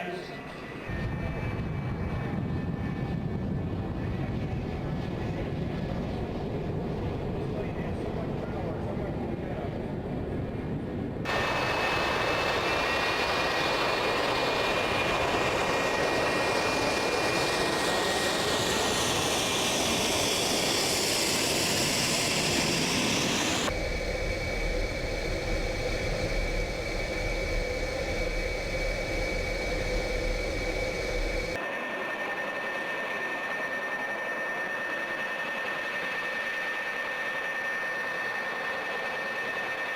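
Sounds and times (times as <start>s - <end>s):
jet flyby: 0.0s - 39.9s
jet engine deep rumble: 0.4s - 39.9s.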